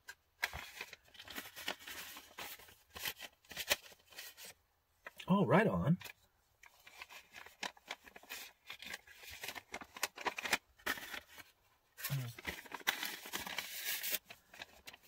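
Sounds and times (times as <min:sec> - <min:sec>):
paper and packaging crinkling: 0:00.1 - 0:04.6, 0:06.0 - 0:15.0.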